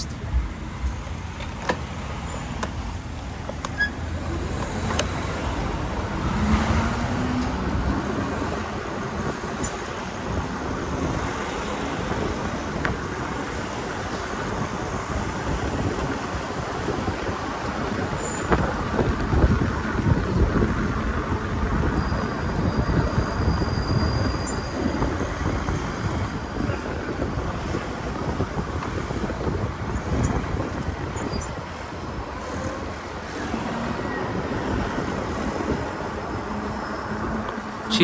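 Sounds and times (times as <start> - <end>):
wind rushing over microphone: 0.0 - 37.9
bicycle road noise: 0.0 - 38.0.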